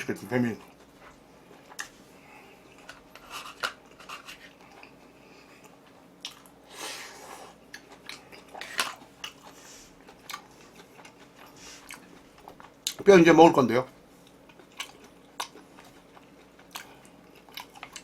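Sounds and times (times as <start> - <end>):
person chewing food: 0.6 - 13.0, 14.2 - 18.0.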